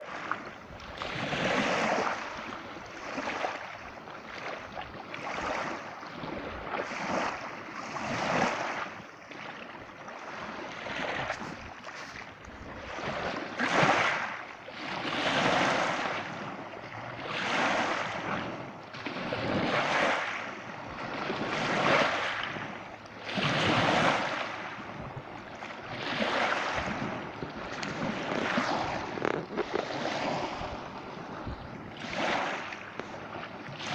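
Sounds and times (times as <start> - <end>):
small sea waves washing in: 0.0 - 33.9.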